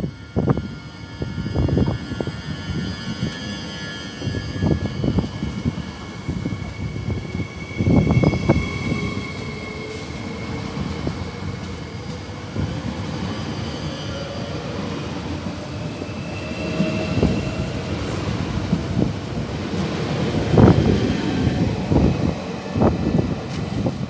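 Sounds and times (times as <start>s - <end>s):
train running by: 0.0s - 24.0s.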